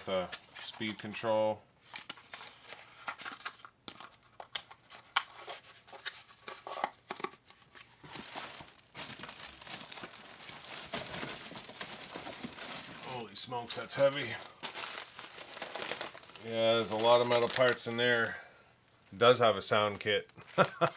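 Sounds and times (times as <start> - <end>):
cardboard and plastic bags crinkling: 0.0 - 4.4, 5.5 - 18.4.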